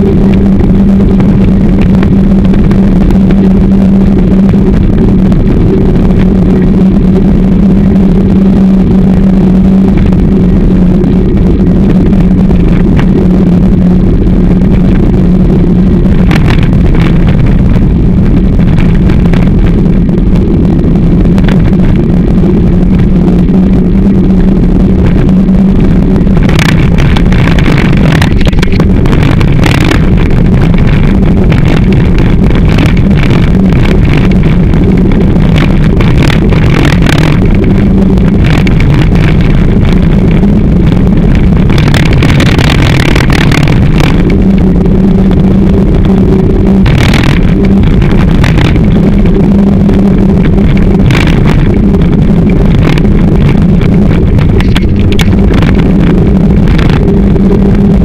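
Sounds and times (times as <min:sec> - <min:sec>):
bike camera rumble: 0:00.0 - 0:58.0
constant low hum: 0:00.0 - 0:58.0
wind: 0:00.0 - 0:58.0.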